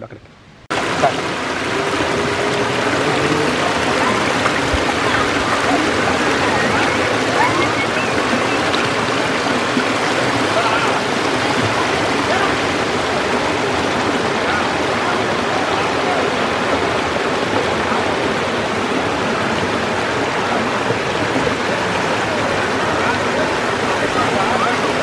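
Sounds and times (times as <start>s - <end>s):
water rushing over rocks: 0.7s - 25.0s.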